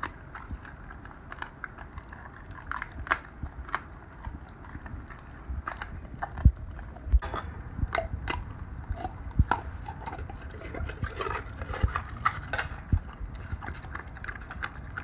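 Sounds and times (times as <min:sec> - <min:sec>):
dog licking and chewing: 0:00.0 - 0:07.2, 0:07.8 - 0:15.0
teeth clicking against metal bowl: 0:00.0 - 0:15.0.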